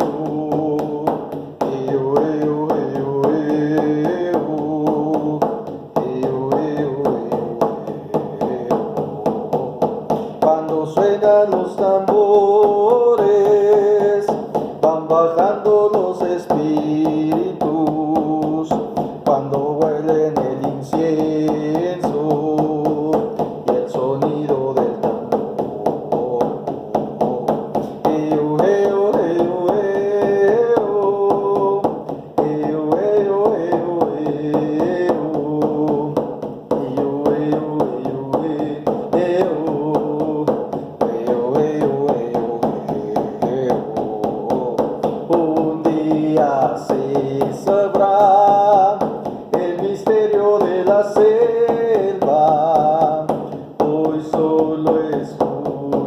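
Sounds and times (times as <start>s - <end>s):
steady drum beat: 0.0s - 56.0s.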